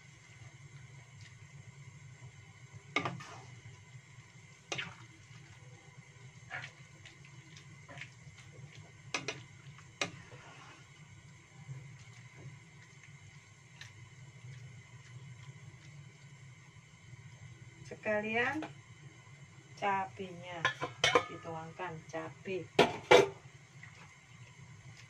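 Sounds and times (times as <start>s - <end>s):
broth simmering: 0.0s - 25.0s
steady low hum: 0.0s - 25.0s.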